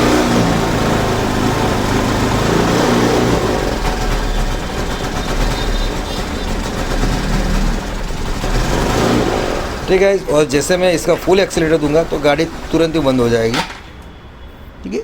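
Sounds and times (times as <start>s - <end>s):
scooter engine running rough: 0.0s - 14.1s.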